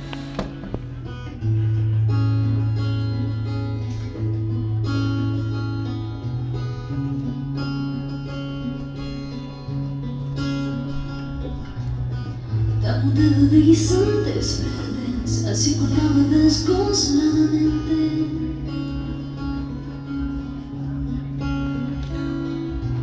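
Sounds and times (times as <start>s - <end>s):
acoustic and electric guitars: 0.0s - 23.0s.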